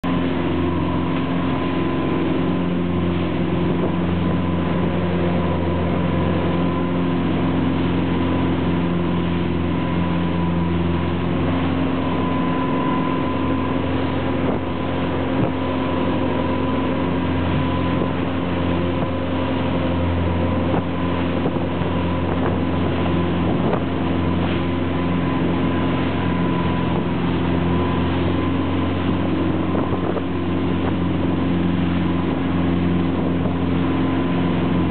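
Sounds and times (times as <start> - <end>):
boat engine droning: 0.0 - 34.9
churning water and spray: 0.0 - 34.9.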